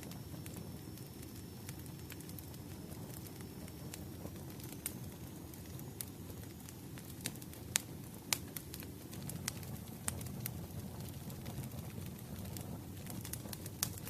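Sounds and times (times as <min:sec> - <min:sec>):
firewood burning with crackles: 0:00.0 - 0:14.0.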